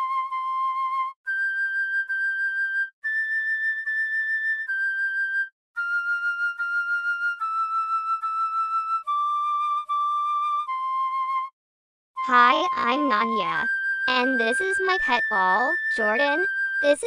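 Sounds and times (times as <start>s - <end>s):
slow flute melody: 0.0s - 11.6s, 12.2s - 17.0s.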